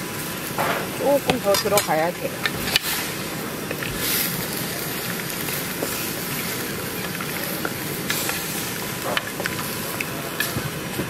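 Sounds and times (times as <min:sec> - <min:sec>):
ribs sizzling in a wok: 0:00.0 - 0:11.0.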